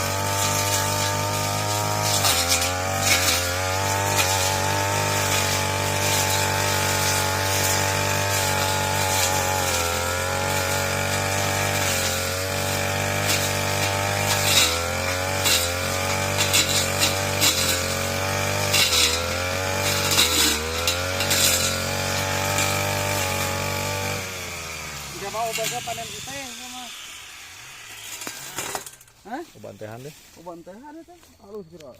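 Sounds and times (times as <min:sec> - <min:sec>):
brush cutter engine revving: 0:00.0 - 0:29.6
cutting noise: 0:00.0 - 0:30.1.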